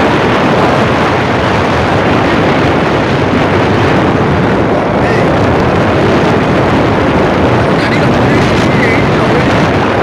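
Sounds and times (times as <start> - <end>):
vehicle driving on dirt road: 0.0 - 10.0
wind buffeting microphone: 0.0 - 10.0.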